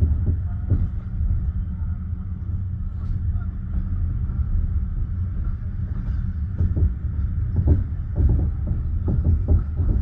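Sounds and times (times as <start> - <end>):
train carriage rumbling: 0.0 - 10.0.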